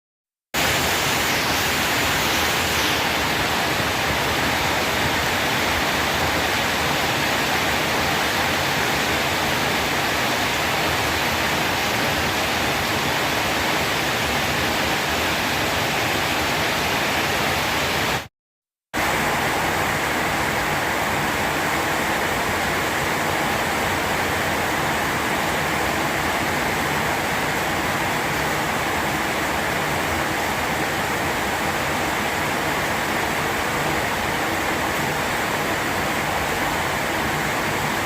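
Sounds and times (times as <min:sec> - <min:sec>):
heavy rain pouring: 0:00.6 - 0:18.3, 0:19.0 - 0:38.0.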